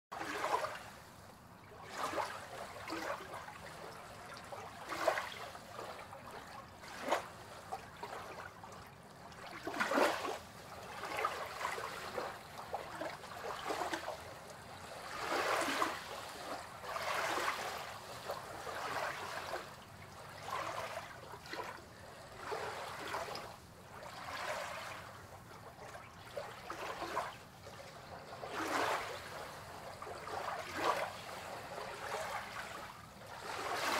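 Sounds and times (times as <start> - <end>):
soft splashes: 0.1 - 33.9
water lapping against pier: 0.1 - 33.9.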